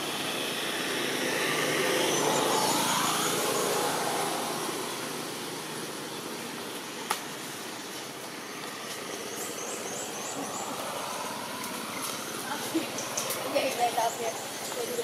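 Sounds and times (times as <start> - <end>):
passing engine: 0.0 - 15.0.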